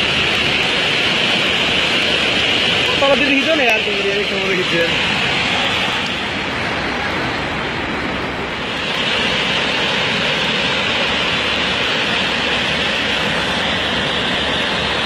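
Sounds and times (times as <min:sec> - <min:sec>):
flood river rushing: 0:00.0 - 0:15.0.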